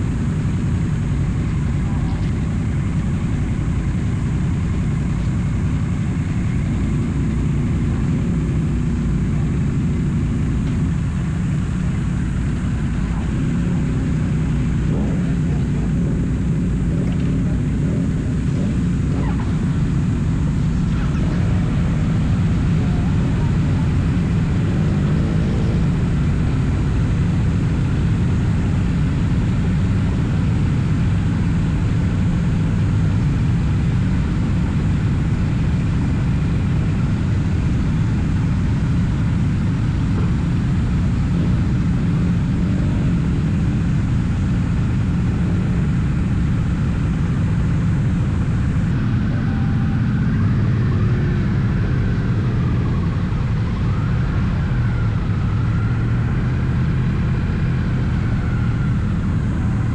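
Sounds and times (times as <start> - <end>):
heavy wind rush: 0.0 - 59.9
motorcycle engine cruising: 0.0 - 59.9.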